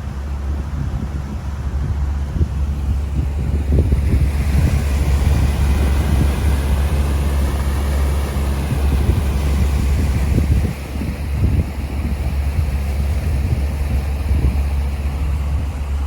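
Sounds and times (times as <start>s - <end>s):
boat motor running: 0.0s - 16.0s
wind on microphone: 0.0s - 16.0s.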